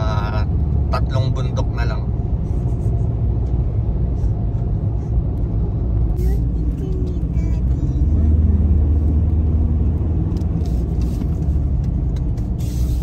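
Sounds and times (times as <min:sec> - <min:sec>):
engine and road rumble in cab: 0:00.0 - 0:13.0.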